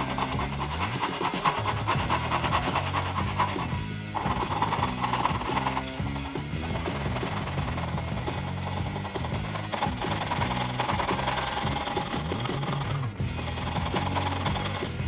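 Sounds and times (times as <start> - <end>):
background music: 0.0 - 15.0
rasp working wood: 0.0 - 15.0.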